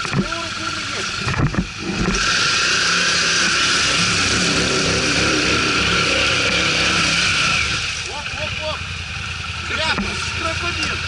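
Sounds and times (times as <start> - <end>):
atv engine running hard: 0.0 - 11.0.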